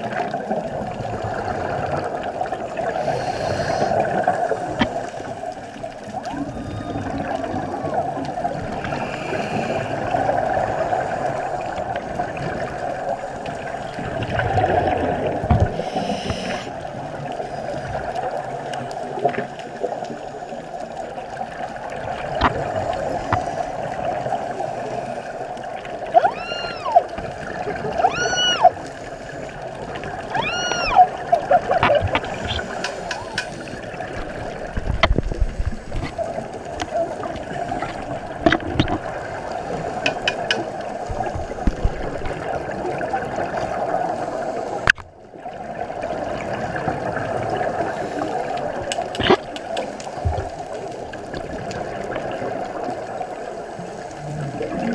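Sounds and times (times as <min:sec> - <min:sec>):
underwater regulator bubbling: 0:00.2 - 0:17.0, 0:21.9 - 0:43.8, 0:46.7 - 0:52.9.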